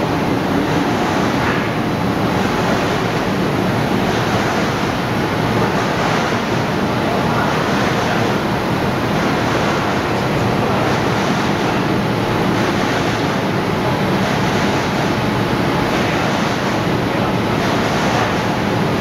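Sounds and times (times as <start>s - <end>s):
printing press running: 0.0s - 19.0s.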